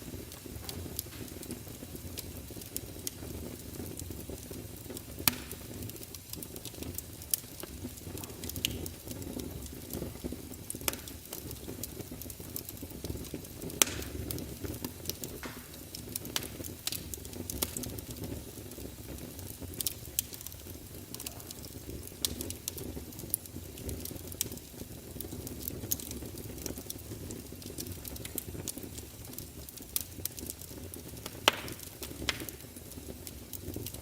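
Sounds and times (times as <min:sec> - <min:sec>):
fire crackling and popping: 0:00.0 - 0:34.0.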